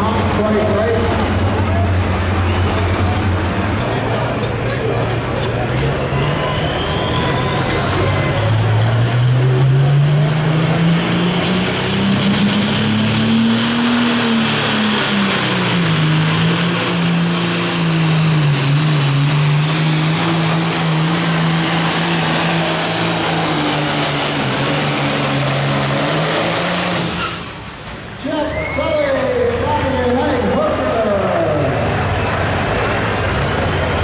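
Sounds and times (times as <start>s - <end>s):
high turbo whine: 0.0s - 34.0s
tractor diesel engine under load: 0.0s - 34.0s.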